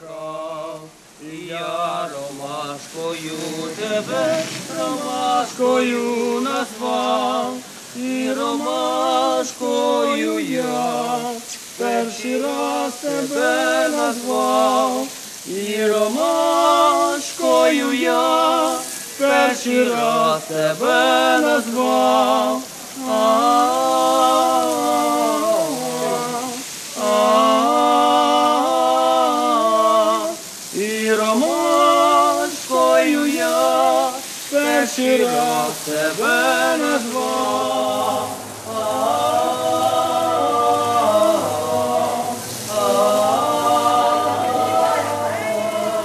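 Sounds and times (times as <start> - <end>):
unaccompanied voices singing: 0.0 - 46.0.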